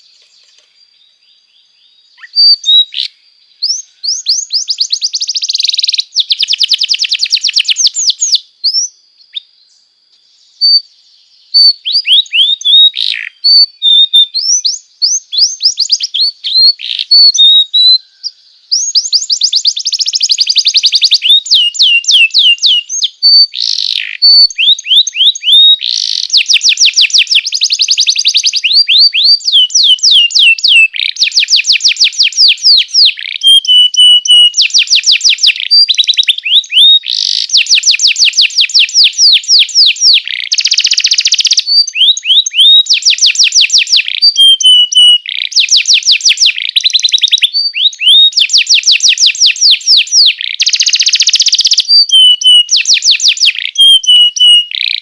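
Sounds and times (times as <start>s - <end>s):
canary singing trills: 0.0s - 9.5s, 10.4s - 55.0s.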